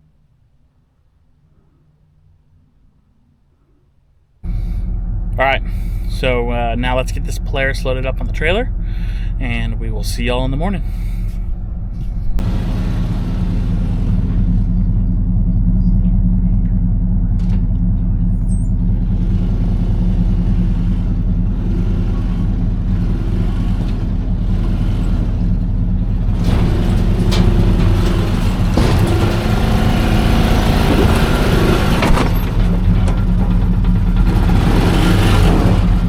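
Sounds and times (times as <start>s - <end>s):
utility vehicle engine running: 4.4s - 36.0s.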